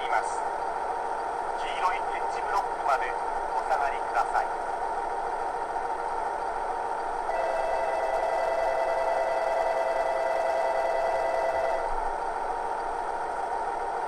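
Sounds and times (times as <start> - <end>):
model railcar diesel running sound: 0.0 - 14.0.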